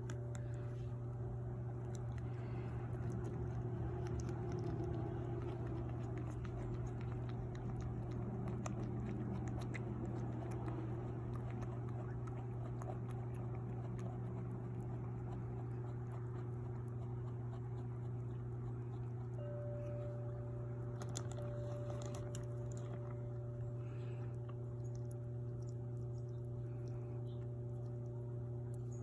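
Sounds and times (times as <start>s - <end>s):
dog chewing and crunching food: 0.0s - 29.0s
steady low hum: 0.0s - 29.0s.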